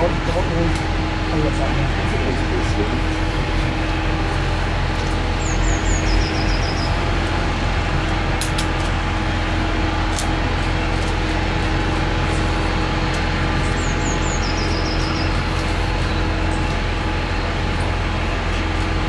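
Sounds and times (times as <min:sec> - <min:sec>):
jet engines droning: 0:00.0 - 0:19.0.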